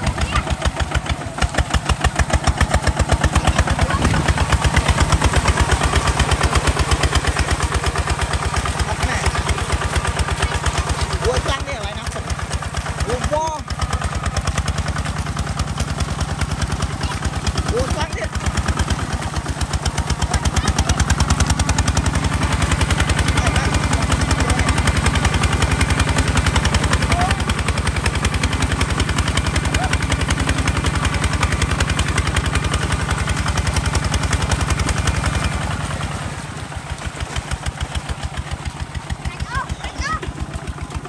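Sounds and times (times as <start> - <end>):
diesel engine exhaust beat: 0.0 - 41.0
wheels churning mud: 0.0 - 41.0.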